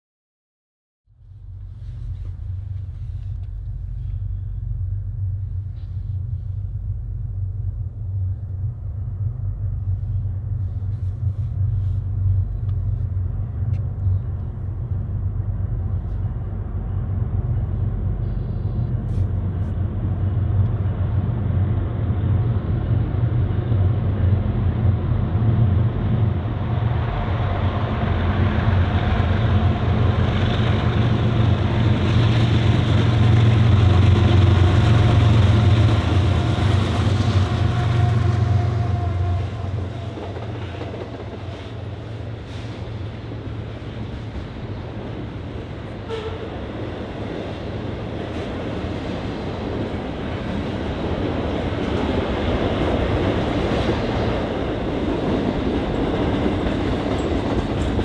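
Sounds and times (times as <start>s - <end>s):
diesel locomotive rumble: 1.1s - 58.0s.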